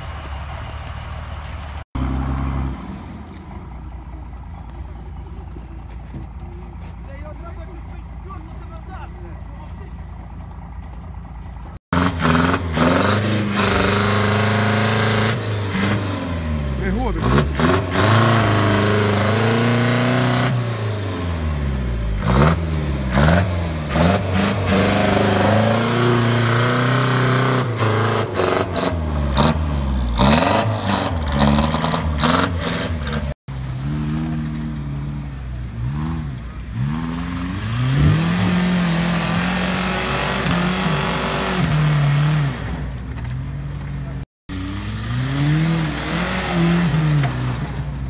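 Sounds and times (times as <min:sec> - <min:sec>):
off-road engines revving: 0:00.0 - 0:48.0.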